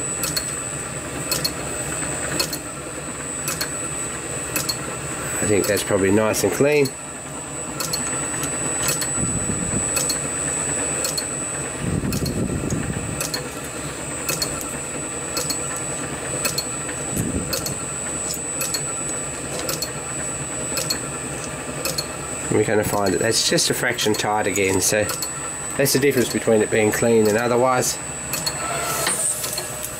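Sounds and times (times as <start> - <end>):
lathe running with high whine: 0.0 - 29.9.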